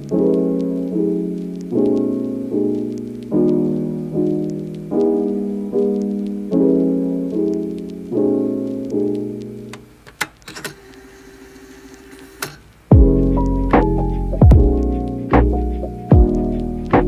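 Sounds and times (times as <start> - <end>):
soft piano chords: 0.0 - 10.0, 12.9 - 17.0.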